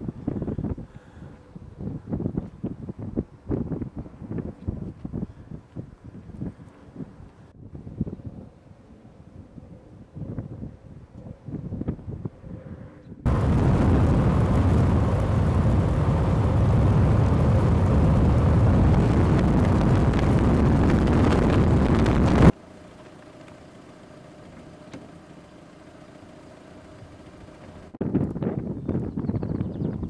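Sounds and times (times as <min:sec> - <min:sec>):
wind buffeting microphone: 0:00.0 - 0:22.6, 0:28.0 - 0:30.0.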